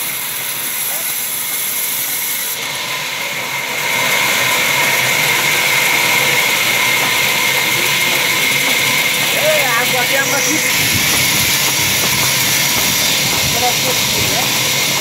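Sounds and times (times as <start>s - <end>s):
band saw cutting timber: 0.0s - 15.0s.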